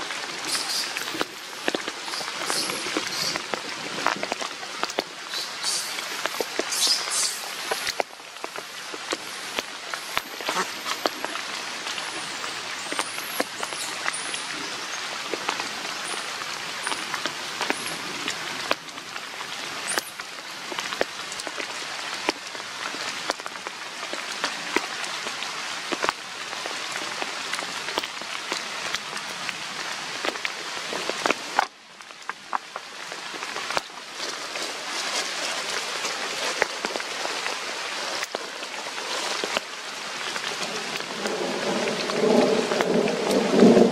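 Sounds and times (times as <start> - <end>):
rain pattering on leaves: 0.0 - 43.9.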